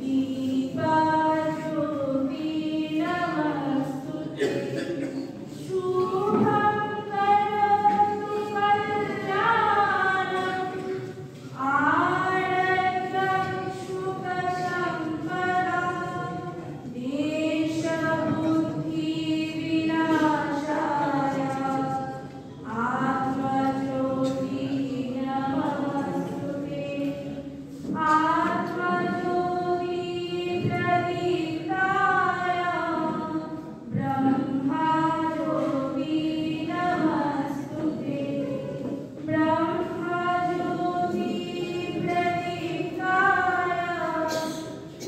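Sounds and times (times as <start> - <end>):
group singing in unison: 0.0 - 45.0.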